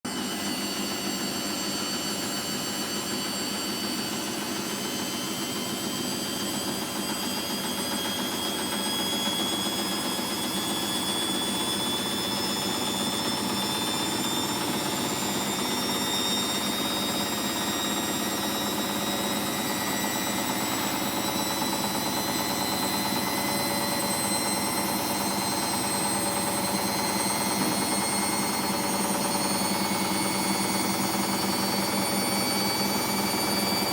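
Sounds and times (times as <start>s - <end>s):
washing machine spinning whine: 0.1s - 33.9s.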